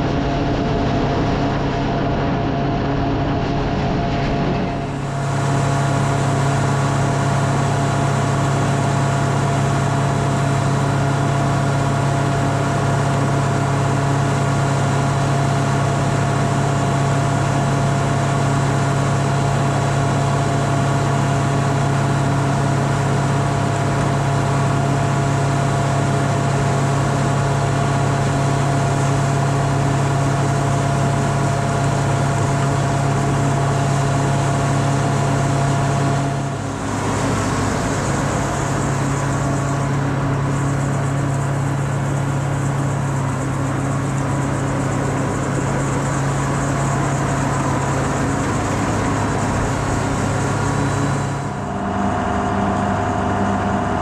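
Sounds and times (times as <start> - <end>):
grinder-mixer machine hum: 0.0 - 54.0.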